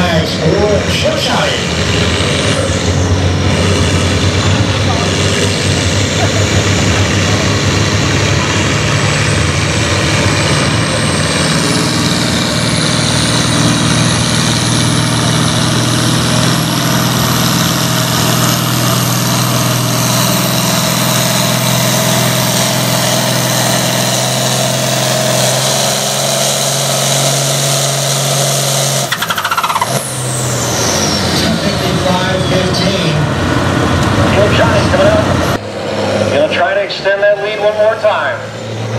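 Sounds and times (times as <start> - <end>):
second tractor engine whine: 0.0 - 38.9
tractor diesel engine under load: 0.0 - 38.9.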